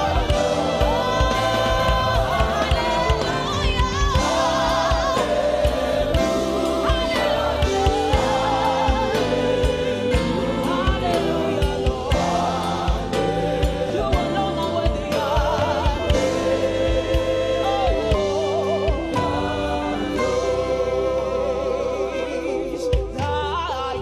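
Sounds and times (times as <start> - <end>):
band with drums and bass: 0.0 - 24.0
men singing backing vocals: 0.0 - 24.0
woman singing with vibrato: 0.0 - 24.0.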